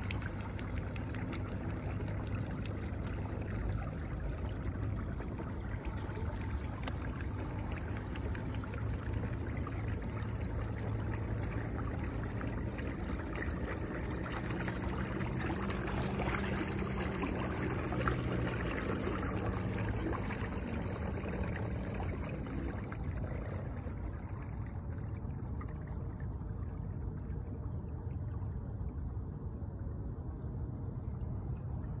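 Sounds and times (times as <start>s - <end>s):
faint low motor hum: 0.0s - 32.0s
water rushing along a boat hull: 0.0s - 32.0s.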